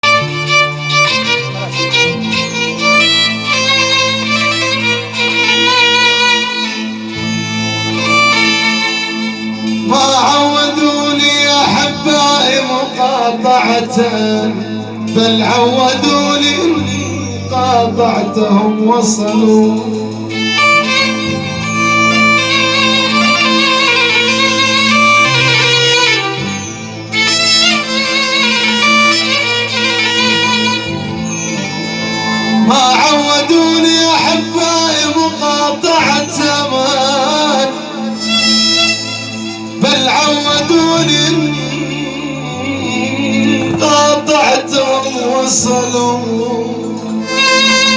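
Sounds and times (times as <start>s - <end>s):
held bass notes: 0.0s - 46.8s
violin melody: 0.0s - 47.9s.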